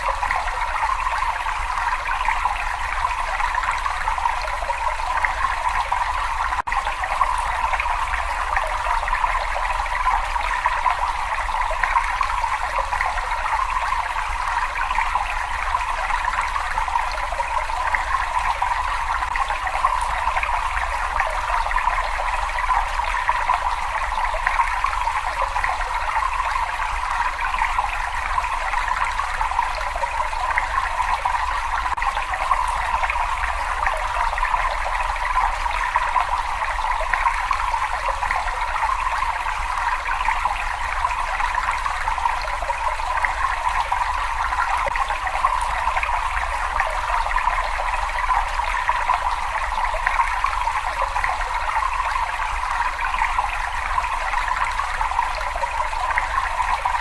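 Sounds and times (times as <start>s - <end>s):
water running and trickling: 0.0s - 57.0s.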